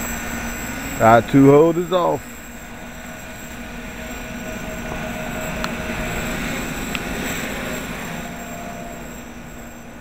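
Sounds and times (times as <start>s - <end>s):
quadcopter propellers buzzing: 0.0s - 10.0s.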